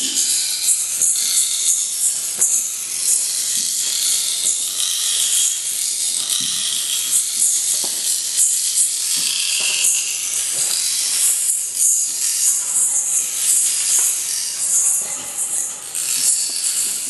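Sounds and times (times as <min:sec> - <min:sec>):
high-pitched hissing rattle: 0:00.0 - 0:17.0.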